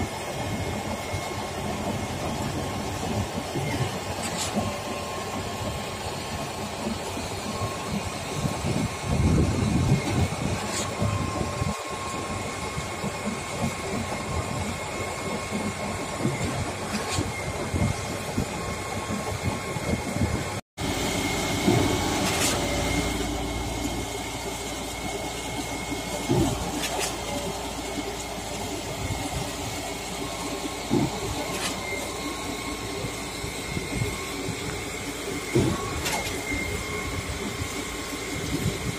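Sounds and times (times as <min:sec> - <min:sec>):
concrete pump engine rumble: 0:00.0 - 0:38.9.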